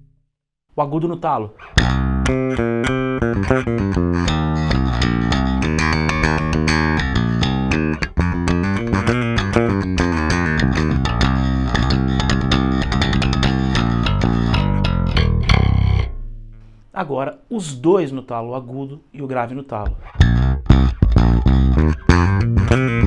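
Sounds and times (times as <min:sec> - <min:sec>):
bass guitar plucked fingerstyle: 0:01.6 - 0:17.0, 0:19.8 - 0:23.0.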